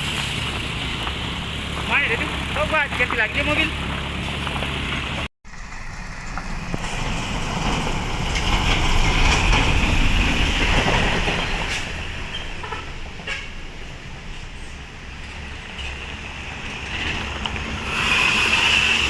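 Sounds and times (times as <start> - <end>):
truck engine labouring: 0.0 - 19.0
tyre and road noise: 0.0 - 19.0.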